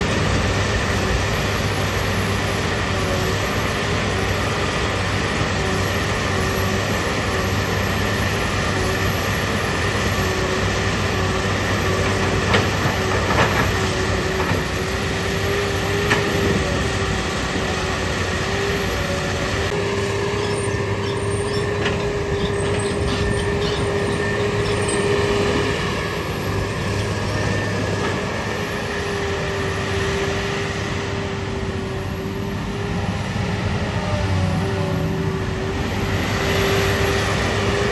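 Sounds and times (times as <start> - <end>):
excavator diesel engine running: 0.0 - 37.9
steady whining tone: 0.0 - 37.9.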